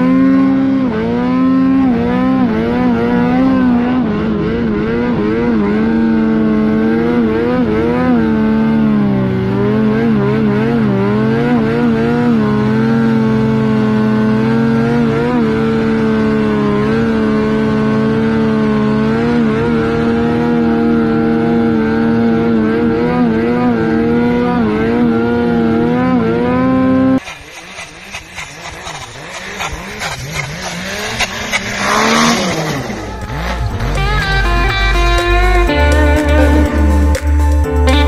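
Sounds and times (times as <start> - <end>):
snowmobile engine at high revs: 0.0 - 38.0.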